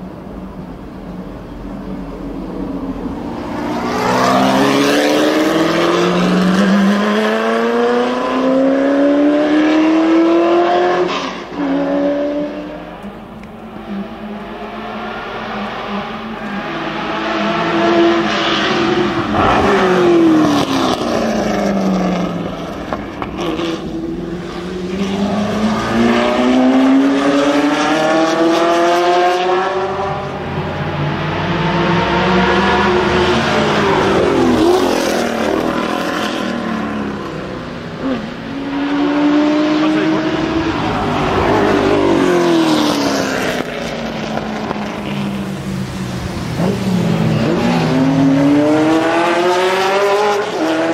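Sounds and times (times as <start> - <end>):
race car engine passing: 2.4 - 50.9.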